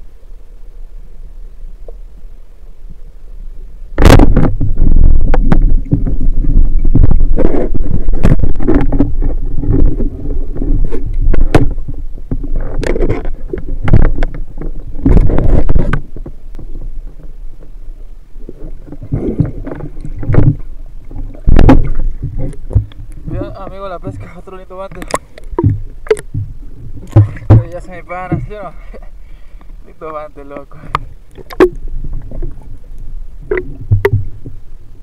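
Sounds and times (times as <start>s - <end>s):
muffled underwater water rushing: 0.0s - 35.0s.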